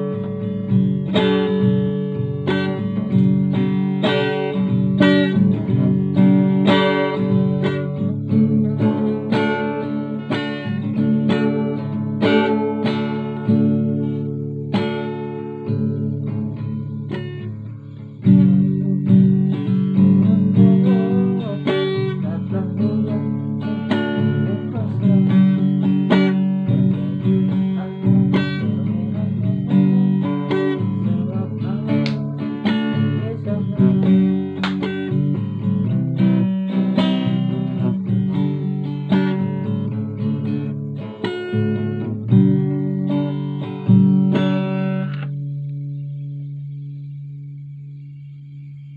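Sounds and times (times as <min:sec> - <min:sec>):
plucked guitar playing: 0:00.0 - 0:48.9.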